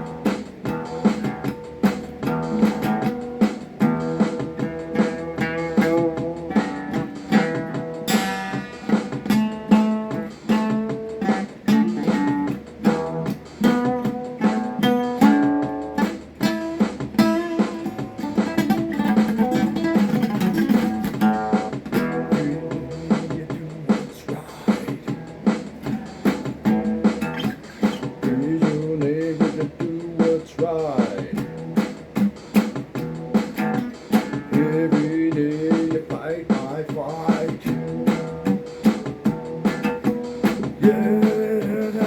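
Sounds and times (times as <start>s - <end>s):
guitar plucking and strumming: 0.0s - 42.0s.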